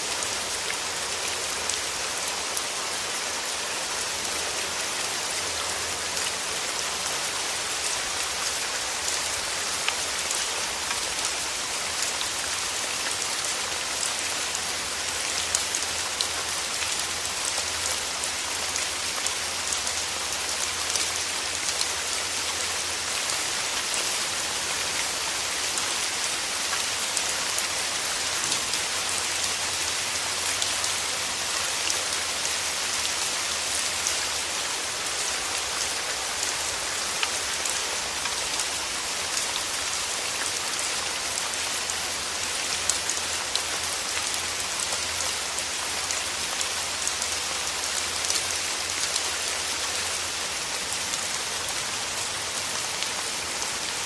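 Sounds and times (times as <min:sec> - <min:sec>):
raindrops pattering on leaves: 0:00.0 - 0:54.0
steady rain falling: 0:00.0 - 0:54.0.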